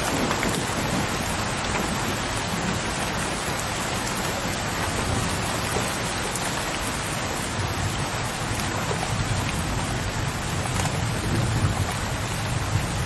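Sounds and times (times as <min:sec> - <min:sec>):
distant thunder rumble: 0:00.0 - 0:13.0
rain falling: 0:00.0 - 0:13.0.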